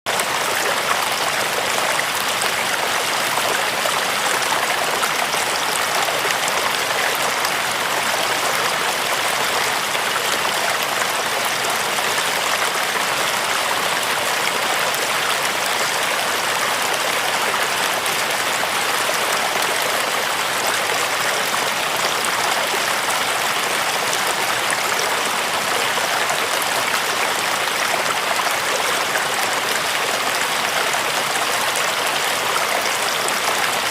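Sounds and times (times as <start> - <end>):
flowing water rushing: 0.1 - 33.9.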